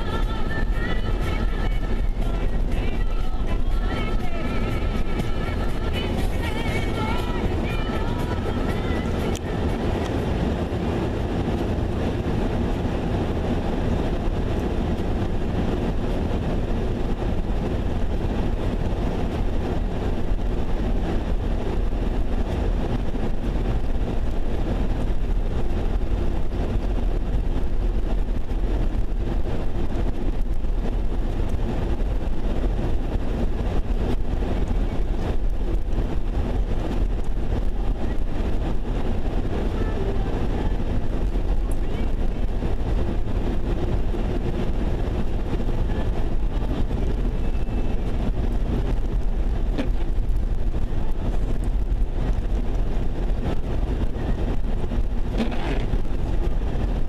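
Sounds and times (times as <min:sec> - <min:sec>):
engine drone: 0:00.0 - 0:57.0
road noise inside vehicle: 0:00.0 - 0:57.0.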